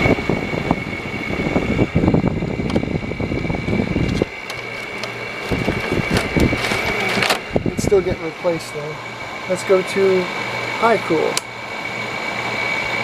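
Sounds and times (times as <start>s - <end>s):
air conditioner fan whine: 0.0s - 13.0s.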